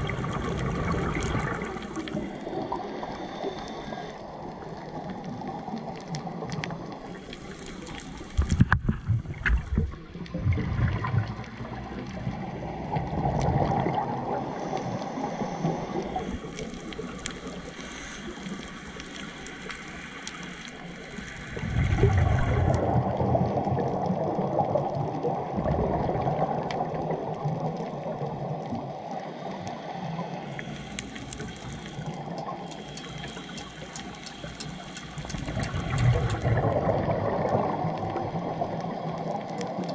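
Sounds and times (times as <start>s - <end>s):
steady underwater hiss: 0.0s - 39.9s
underwater bubbles gurgling: 0.0s - 39.9s.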